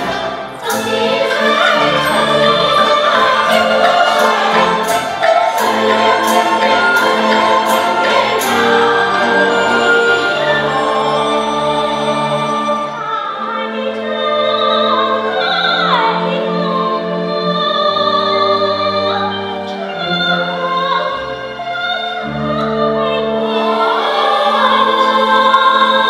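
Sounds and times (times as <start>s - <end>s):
orchestra of strings: 0.0s - 26.0s.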